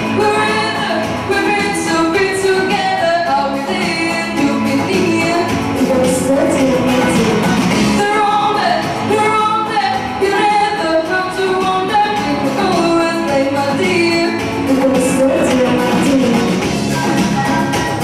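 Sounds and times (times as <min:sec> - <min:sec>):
musical accompaniment: 0:00.0 - 0:18.0
woman singing pop song: 0:00.0 - 0:18.0.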